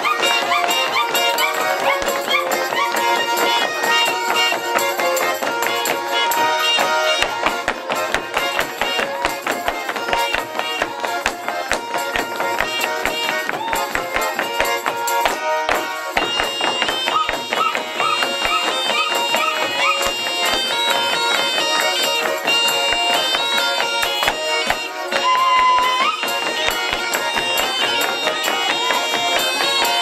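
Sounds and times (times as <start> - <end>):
button accordion: 0.0 - 30.0
folk pipes: 0.0 - 30.0
plucked string instrument: 0.0 - 30.0
steady knocking beat: 5.5 - 30.0.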